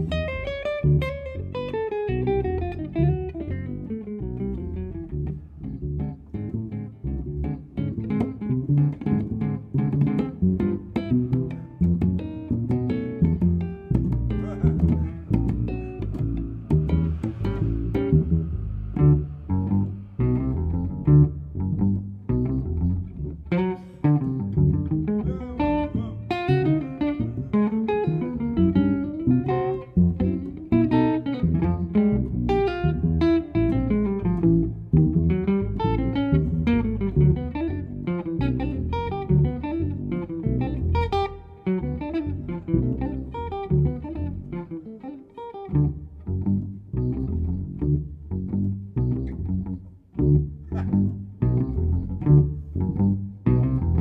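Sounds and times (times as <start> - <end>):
double bass: 0.0 - 54.0
picked electric guitar: 0.0 - 54.0.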